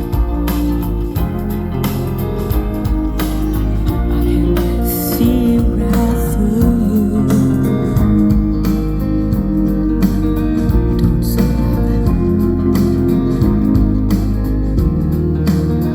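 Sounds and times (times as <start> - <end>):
pop-rock instrumental over a speaker: 0.0 - 15.9.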